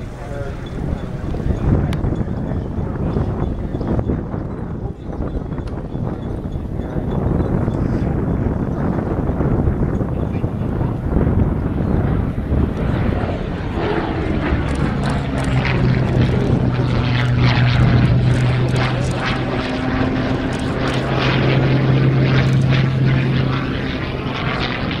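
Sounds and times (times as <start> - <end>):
propeller plane droning overhead: 0.0 - 25.0.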